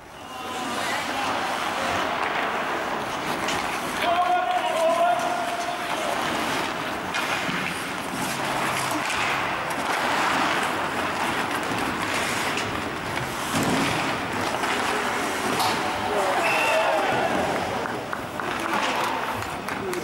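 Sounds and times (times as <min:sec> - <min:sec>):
skates hissing on ice: 0:00.6 - 0:17.8
hockey sticks and puck clicking: 0:00.7 - 0:20.0.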